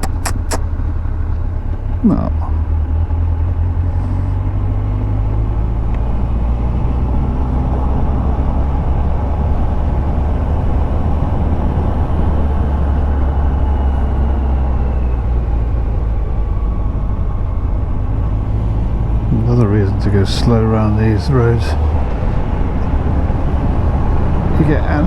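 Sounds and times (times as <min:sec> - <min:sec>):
wind and road rush: 0:00.0 - 0:25.0.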